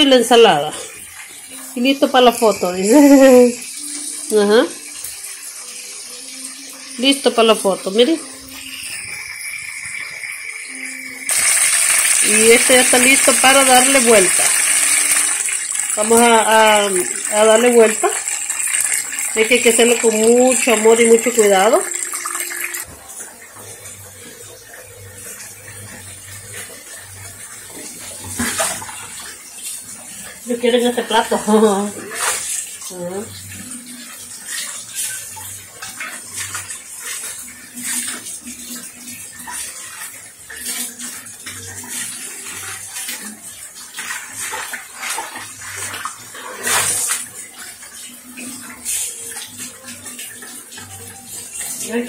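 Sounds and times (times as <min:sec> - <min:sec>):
faucet running into steel sink: 0:00.0 - 0:52.0.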